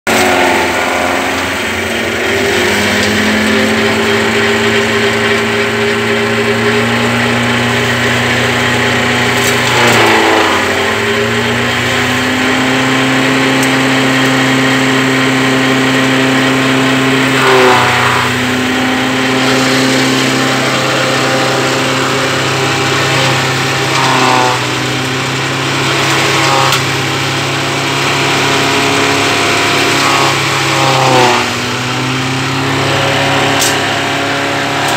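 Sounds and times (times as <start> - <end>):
straw chopper and tractor drone: 0.0 - 34.9.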